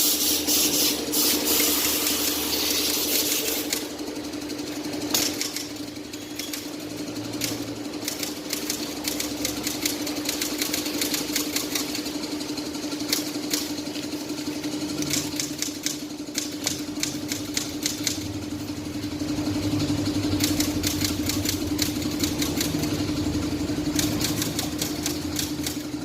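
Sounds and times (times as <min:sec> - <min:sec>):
motorcycle engine idling: 0:01.5 - 0:26.0.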